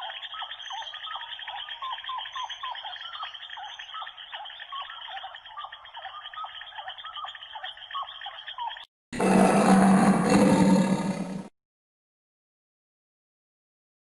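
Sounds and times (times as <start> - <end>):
chorus of small animals chirping: 0.0 - 11.5.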